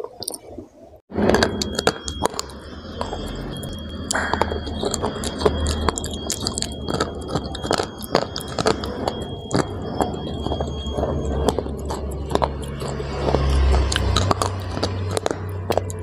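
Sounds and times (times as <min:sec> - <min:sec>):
crunching and chewing: 0:01.2 - 0:16.0.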